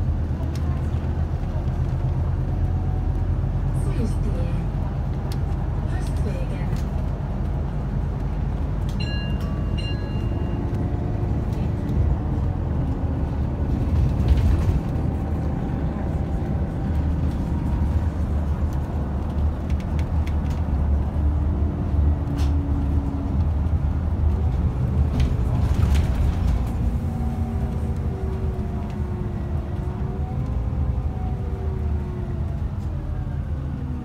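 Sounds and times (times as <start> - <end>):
bus diesel engine droning: 0.0 - 34.0
road noise: 0.0 - 34.0.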